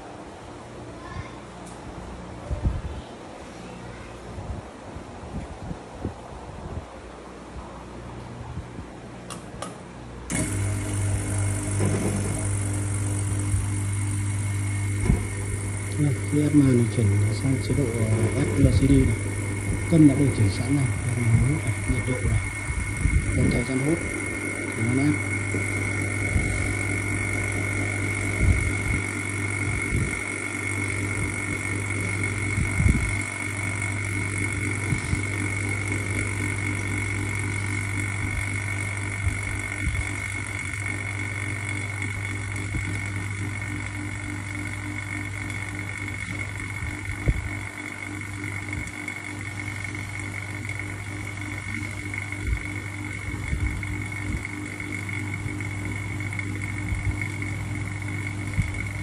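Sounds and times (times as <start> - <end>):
vacuum pump humming with high whine: 0.0 - 59.0.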